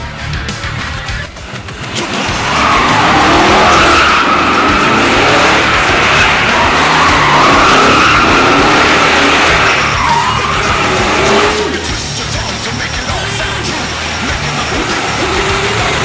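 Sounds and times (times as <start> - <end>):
car tyres squealing: 1.2 - 16.0.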